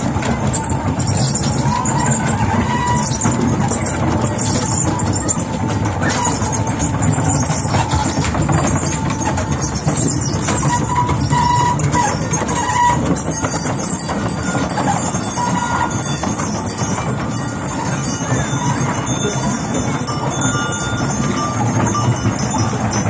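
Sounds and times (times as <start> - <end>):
cart rumble: 0.0 - 23.0
wooden axles squealing: 0.0 - 23.0.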